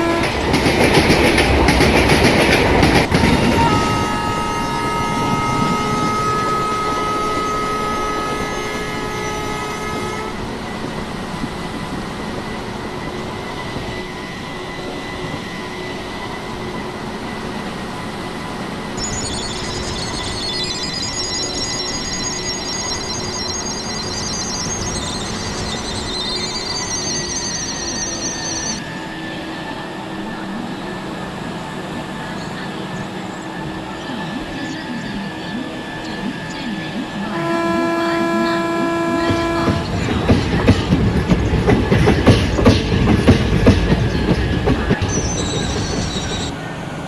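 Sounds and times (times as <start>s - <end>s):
electric train rumbling past: 0.0s - 47.0s
train whine: 0.0s - 47.0s
wheels squealing on rails: 0.0s - 47.0s.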